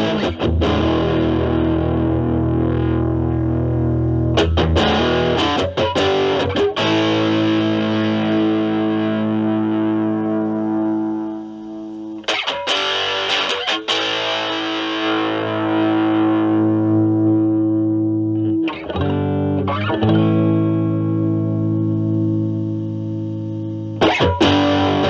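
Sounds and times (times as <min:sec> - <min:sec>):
electric guitar chords strummed: 0:00.0 - 0:25.0.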